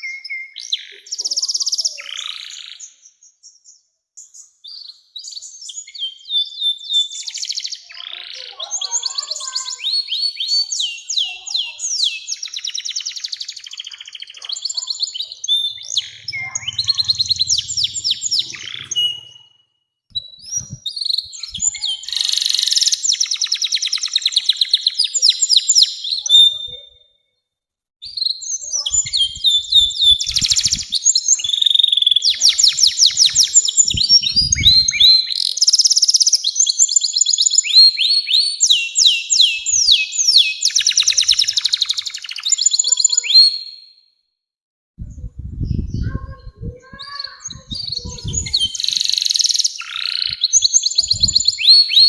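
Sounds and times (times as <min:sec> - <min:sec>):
canary singing trills: 0:00.0 - 0:27.1, 0:28.0 - 0:44.0, 0:45.6 - 0:52.0.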